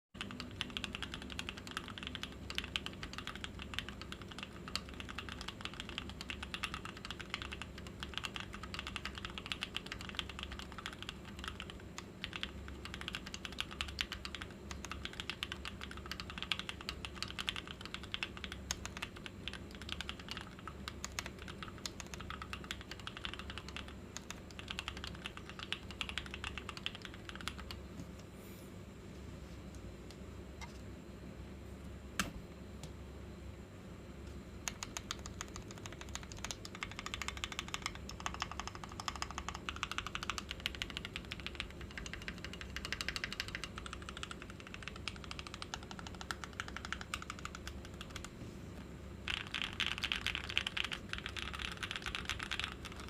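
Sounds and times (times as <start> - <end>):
mechanical keyboard typing: 0.2 - 27.8, 34.6 - 48.3, 49.3 - 53.0.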